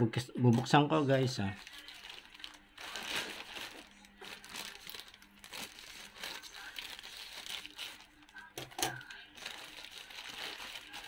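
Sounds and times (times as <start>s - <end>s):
plastic mailer pouch crinkling: 1.4s - 11.0s.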